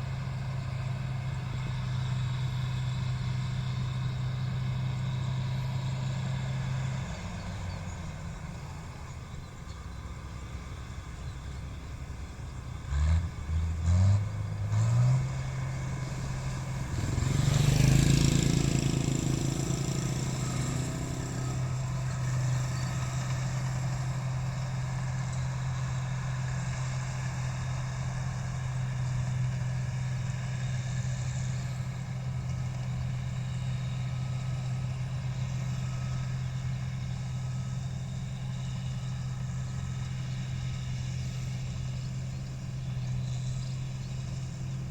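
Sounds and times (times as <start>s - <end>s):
combine harvester engine revving: 0.0s - 44.9s.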